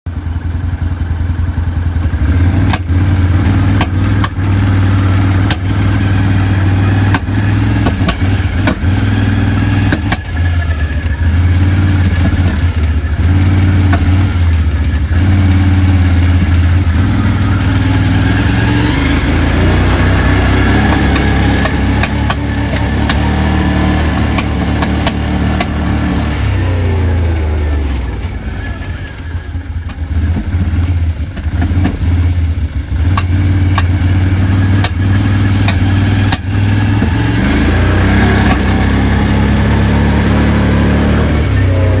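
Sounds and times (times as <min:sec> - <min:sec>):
quad bike engine idling and revving: 0:00.1 - 0:42.0
sharp clicks and knocks: 0:02.6 - 0:28.4, 0:29.1 - 0:32.2, 0:33.0 - 0:39.4.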